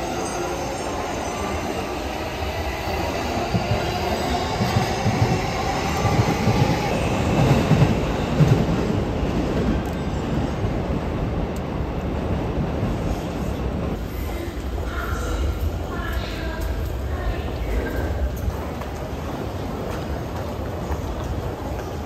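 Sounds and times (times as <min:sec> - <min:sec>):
trains rumbling past: 0:00.0 - 0:22.0.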